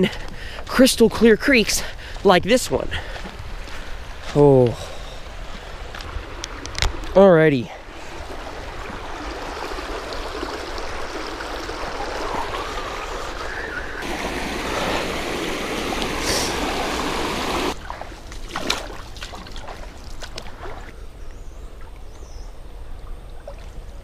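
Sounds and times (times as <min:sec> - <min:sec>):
creek water rushing: 0:00.0 - 0:20.9.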